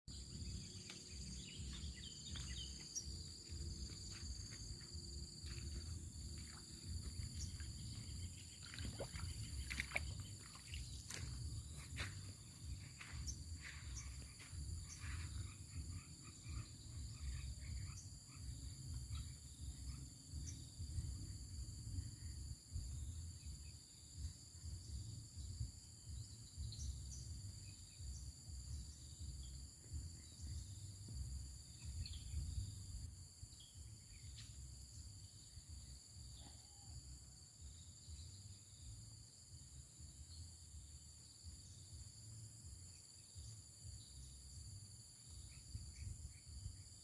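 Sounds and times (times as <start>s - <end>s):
crickets trilling: 0.1s - 47.0s.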